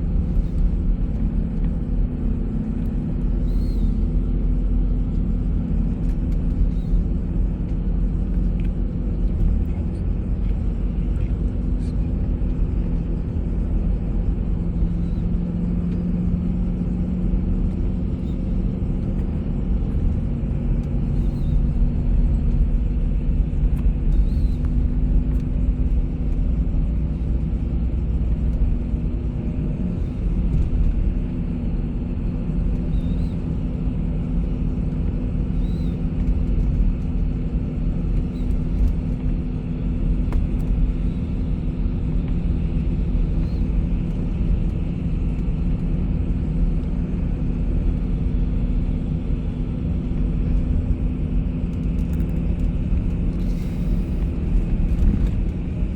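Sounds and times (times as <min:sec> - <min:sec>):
bus engine drone: 0:00.0 - 0:55.9.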